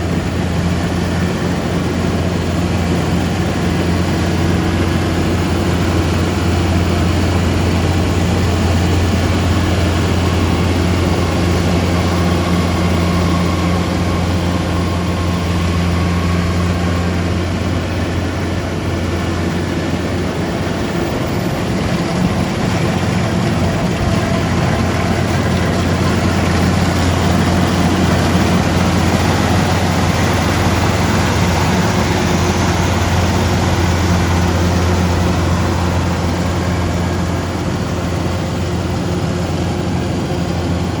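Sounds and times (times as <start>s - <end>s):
harvester engine humming: 0.0s - 41.0s.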